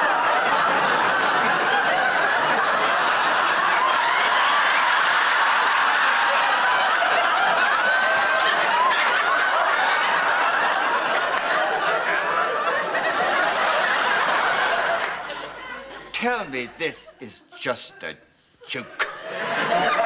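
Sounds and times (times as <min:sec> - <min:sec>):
studio audience laughing: 0:00.0 - 0:20.0.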